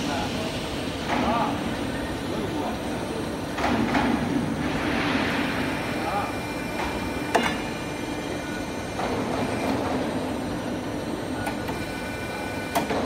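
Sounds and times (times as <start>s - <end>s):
pipe bending machine humming: 0.0s - 13.0s.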